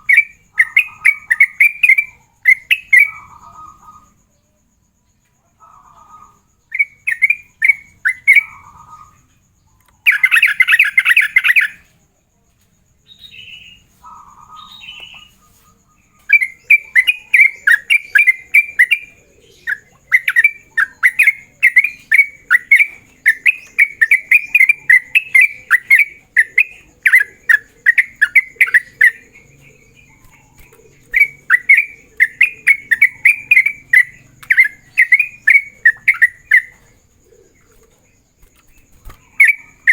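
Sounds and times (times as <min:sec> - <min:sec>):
bulbul singing: 0:00.0 - 0:04.4, 0:06.1 - 0:12.0, 0:13.0 - 0:39.9.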